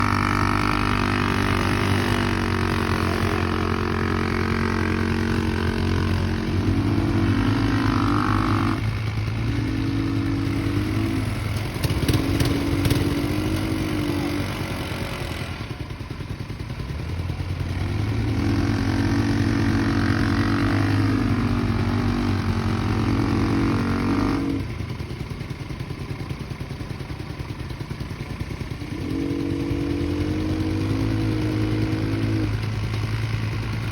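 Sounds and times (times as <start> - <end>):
engine revving under load: 0.0 - 25.1, 28.6 - 33.9.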